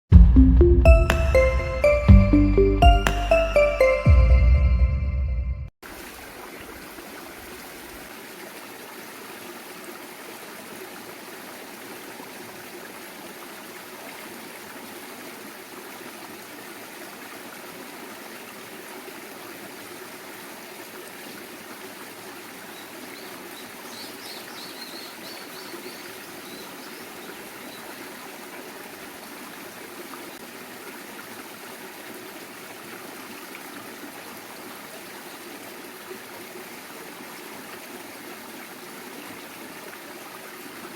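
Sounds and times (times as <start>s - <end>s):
stream rushing water: 5.8s - 40.9s.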